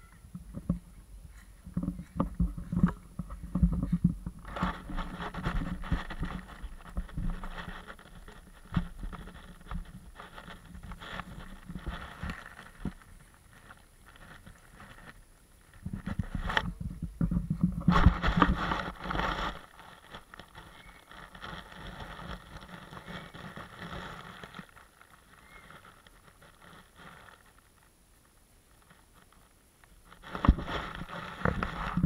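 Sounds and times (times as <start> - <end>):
grass rustling against camera: 0.0 - 32.0.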